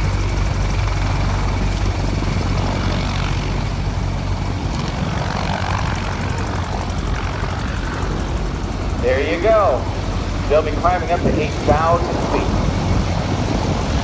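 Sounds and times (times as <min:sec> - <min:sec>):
helicopter rotors and engines: 0:00.0 - 0:14.0.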